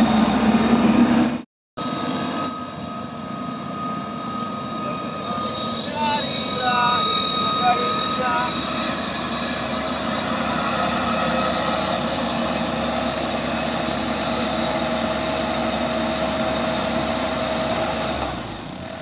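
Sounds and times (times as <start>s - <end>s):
combine harvester engine hum: 0.0s - 19.0s
steady whine: 0.0s - 19.0s.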